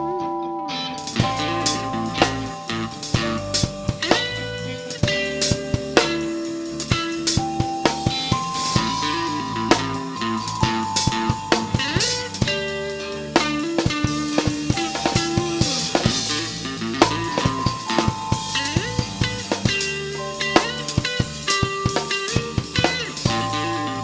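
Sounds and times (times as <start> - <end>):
bass: 0.0 - 24.0
guitar: 0.0 - 24.0
synth melody: 0.0 - 24.0
drum kit: 1.0 - 24.0.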